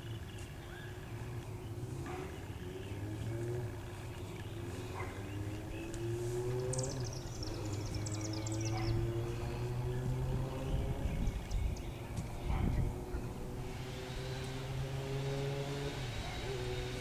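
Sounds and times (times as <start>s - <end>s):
bird chirping: 0.0s - 17.0s
low motor hum: 0.0s - 17.0s
rising drone tones: 0.0s - 17.0s.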